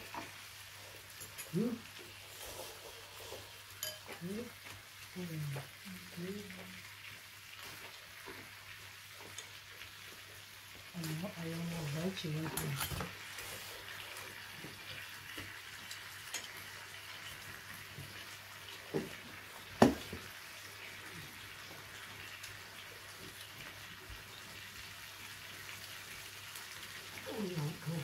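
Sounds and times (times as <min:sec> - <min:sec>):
meat sizzling on grill: 0:00.0 - 0:28.0.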